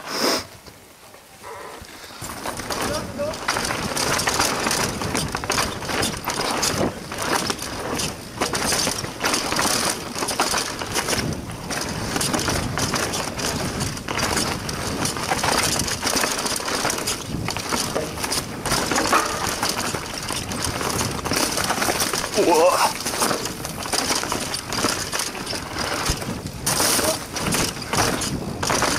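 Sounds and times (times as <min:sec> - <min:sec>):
bike tyres rolling over dirt: 0:00.6 - 0:28.9
bike rattling and knocking: 0:02.1 - 0:28.9.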